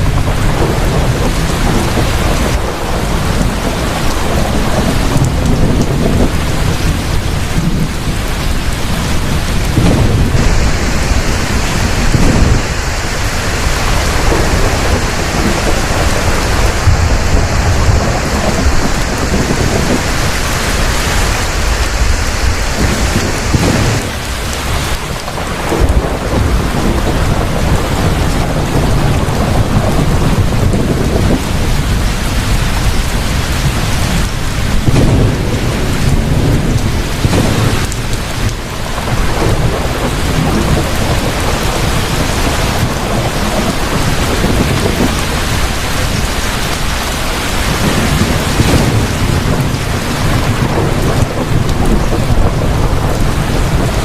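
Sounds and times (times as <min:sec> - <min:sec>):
heavy rain: 0:00.0 - 0:54.0
rolling thunder: 0:00.0 - 0:54.0.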